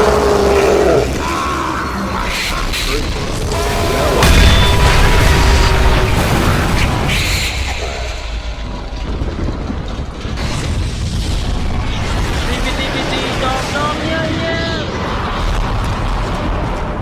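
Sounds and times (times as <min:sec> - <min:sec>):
burst of noise: 0:00.0 - 0:17.0
explosion boom rumbling: 0:00.0 - 0:17.0.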